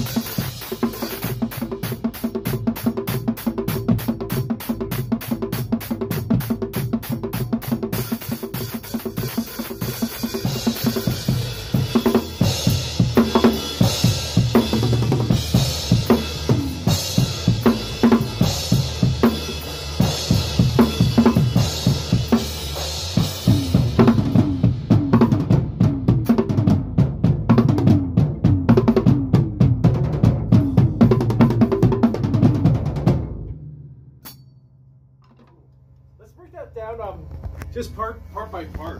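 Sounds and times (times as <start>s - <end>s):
drum kit playing steady beat: 0.0s - 34.4s.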